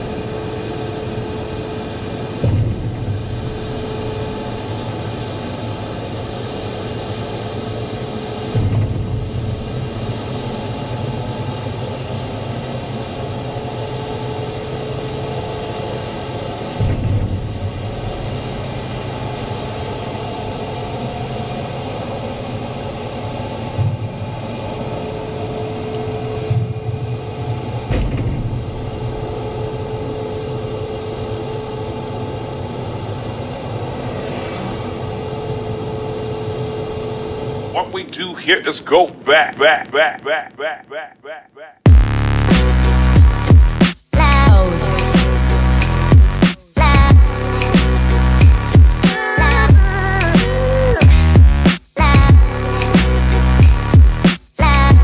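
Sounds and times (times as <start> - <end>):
truck engine and road rumble: 0.0 - 12.1, 15.5 - 55.0.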